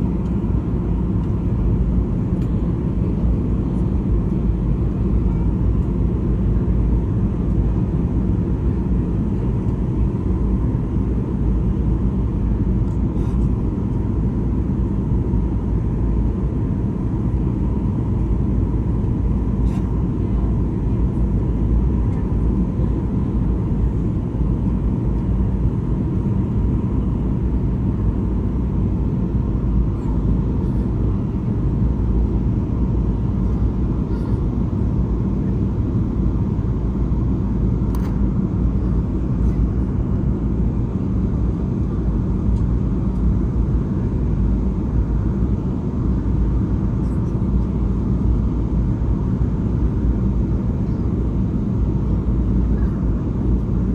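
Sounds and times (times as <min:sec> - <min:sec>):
airliner cabin engine rumble: 0:00.0 - 0:53.9
faint steady whine: 0:00.0 - 0:53.9.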